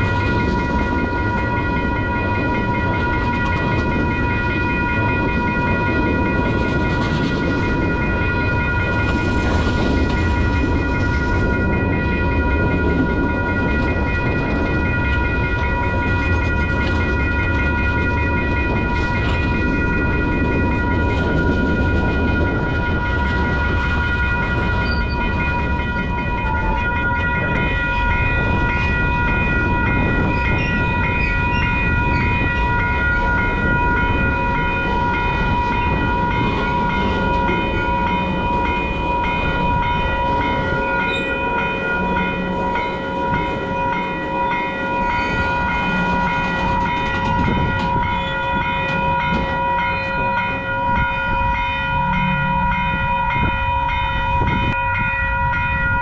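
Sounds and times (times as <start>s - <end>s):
crossing bell ringing: 0.0s - 56.0s
freight train rolling past: 0.0s - 56.0s.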